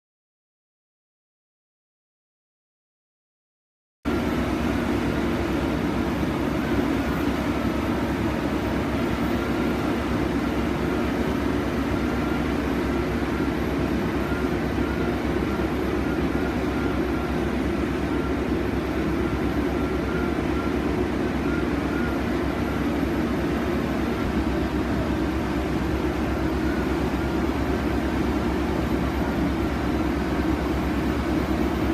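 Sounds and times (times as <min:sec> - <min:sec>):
drilling rig machine noise: 0:04.1 - 0:31.9.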